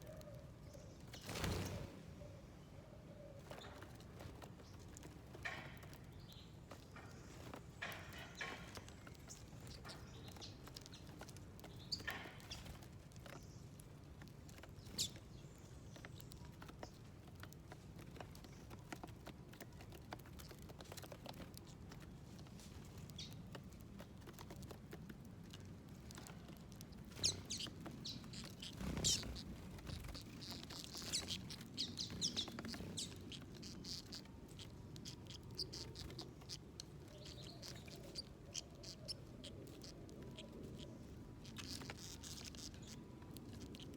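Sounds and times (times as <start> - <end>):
birds pecking and ticking: 0.0 - 43.9.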